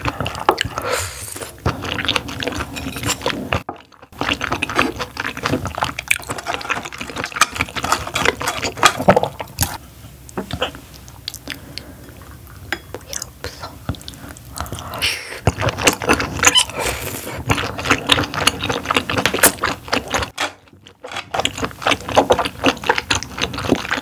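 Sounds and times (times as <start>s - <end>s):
wet chewing mouth sounds: 0.0s - 9.8s, 10.4s - 24.0s.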